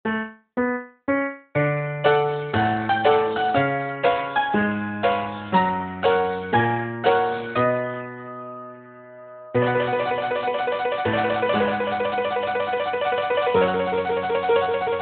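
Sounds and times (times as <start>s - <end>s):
silent movie style piano music: 0.1s - 15.0s.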